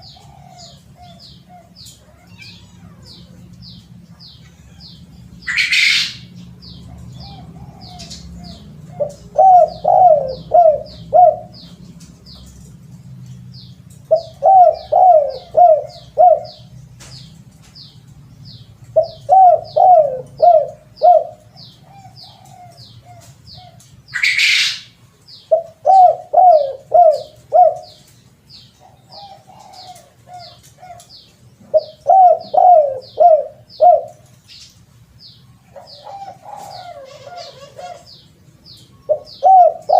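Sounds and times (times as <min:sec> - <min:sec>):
dove cooing: 0:00.0 - 0:11.8, 0:14.0 - 0:16.7, 0:18.9 - 0:28.1, 0:28.7 - 0:34.4, 0:35.6 - 0:39.9.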